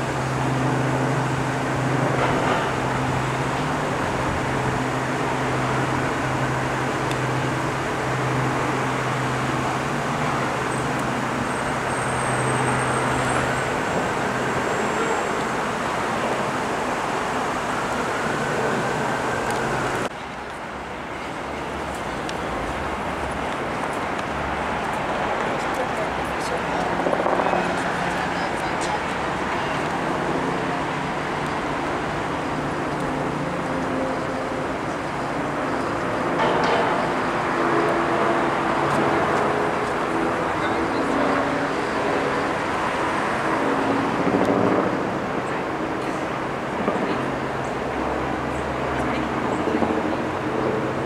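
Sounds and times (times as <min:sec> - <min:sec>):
helicopter flying overhead: 0:00.0 - 0:51.0.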